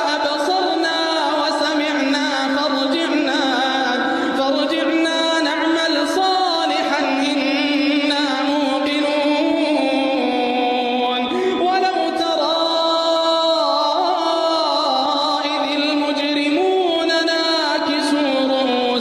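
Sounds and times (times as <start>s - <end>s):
person chanting melodically: 0.0s - 19.0s.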